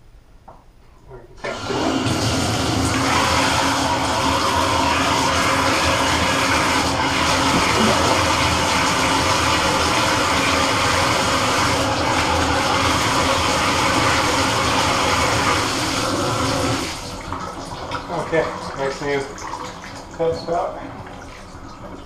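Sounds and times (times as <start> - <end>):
water running into bathtub: 1.4 - 22.0.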